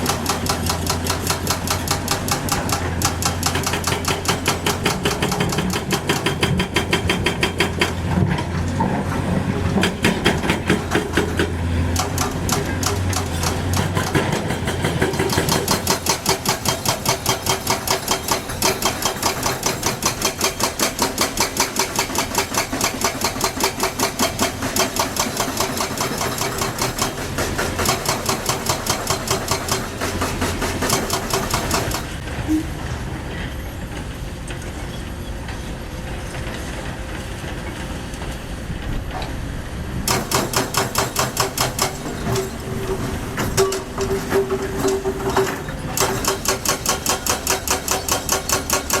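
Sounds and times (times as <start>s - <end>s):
excavator diesel engine: 0.0s - 49.0s.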